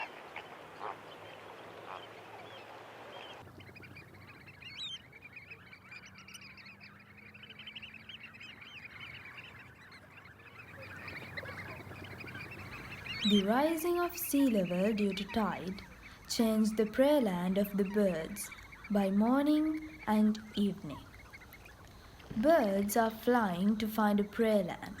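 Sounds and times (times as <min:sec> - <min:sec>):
flock of birds calling: 0:00.0 - 0:25.0.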